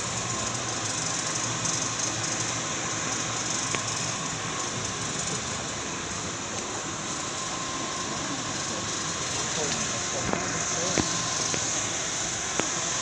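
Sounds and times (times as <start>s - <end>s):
air conditioner fan blowing: 0.0s - 13.0s.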